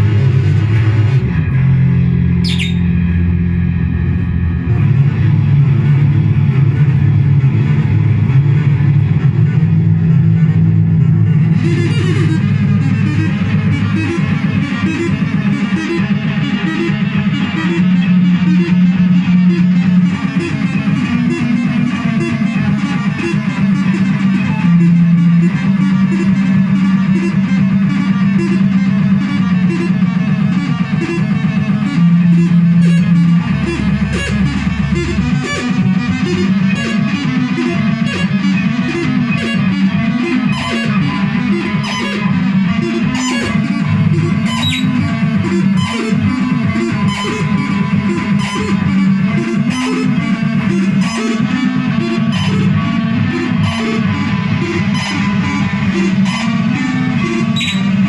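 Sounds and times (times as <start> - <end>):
deep bass tone: 0.0 - 58.0
dense synthesizer drone: 0.0 - 58.0.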